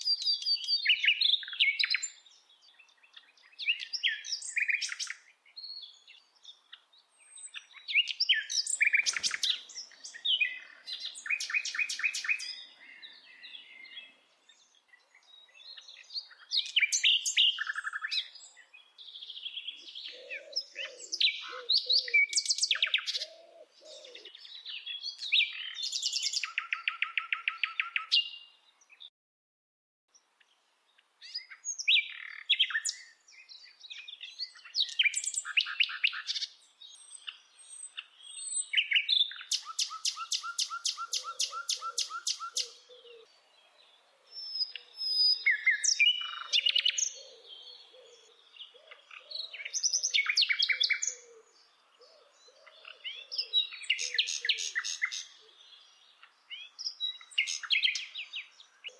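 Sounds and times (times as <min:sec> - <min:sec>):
bird singing trills: 0:00.0 - 0:29.1, 0:31.2 - 0:58.9.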